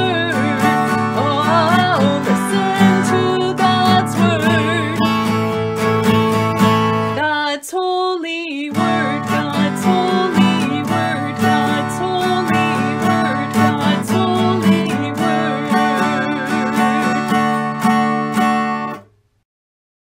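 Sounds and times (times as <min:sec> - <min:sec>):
strummed acoustic guitar: 0:00.0 - 0:07.3, 0:08.7 - 0:19.1.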